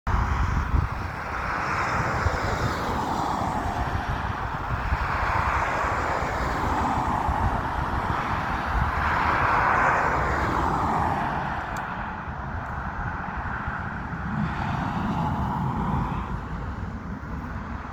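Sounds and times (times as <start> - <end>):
jet engines roaring: 0.1 - 17.9.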